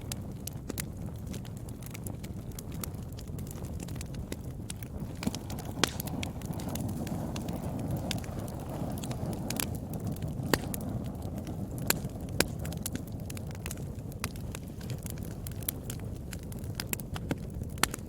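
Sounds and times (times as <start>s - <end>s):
fire crackling: 0.0s - 18.0s
sharp fire pops: 0.0s - 18.0s
wood fire rumbling: 0.0s - 18.0s.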